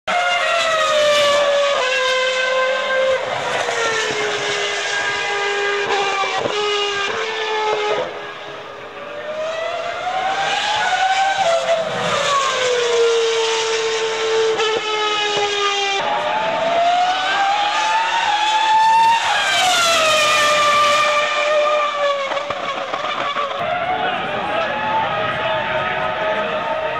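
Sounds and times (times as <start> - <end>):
racing car engines screaming: 0.1 - 26.9.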